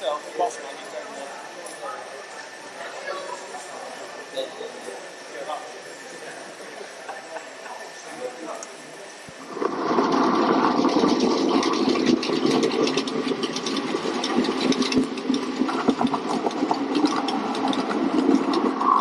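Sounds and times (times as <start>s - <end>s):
model train motor and wheels: 0.0s - 19.0s
wheels clicking over rails: 0.0s - 19.0s.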